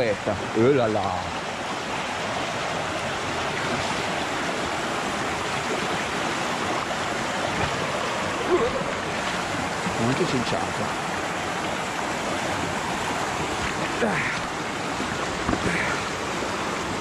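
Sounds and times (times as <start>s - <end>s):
water rushing over boulders: 0.0s - 17.0s.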